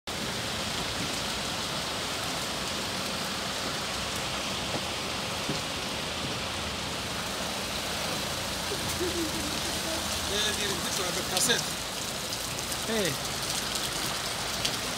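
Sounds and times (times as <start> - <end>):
rain falling on flooded street: 0.1 - 14.9.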